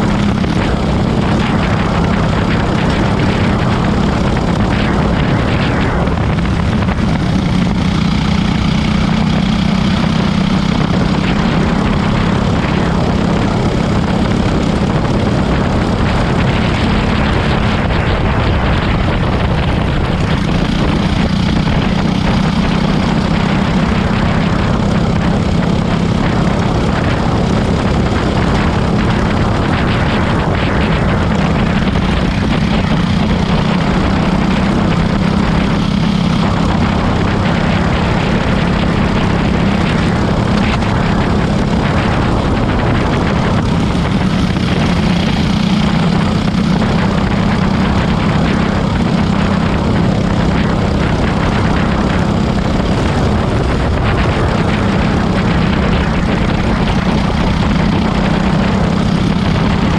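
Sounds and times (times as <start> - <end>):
go-kart engine droning: 0.0 - 59.9.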